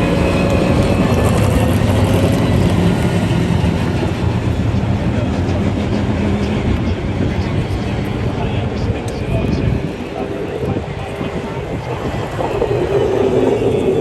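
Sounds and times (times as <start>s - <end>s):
aircraft flying overhead: 0.0s - 14.0s.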